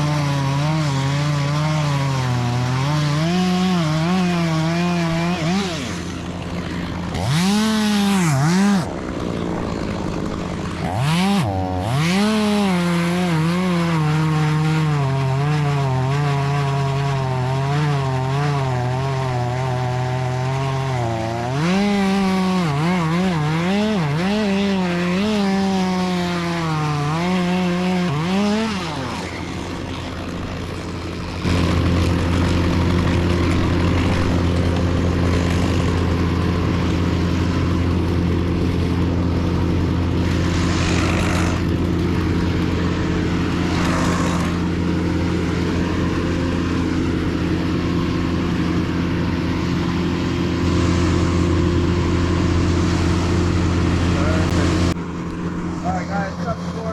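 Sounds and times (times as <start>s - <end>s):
chainsaw revving: 0.0s - 56.9s
steady engine drone: 0.0s - 56.9s.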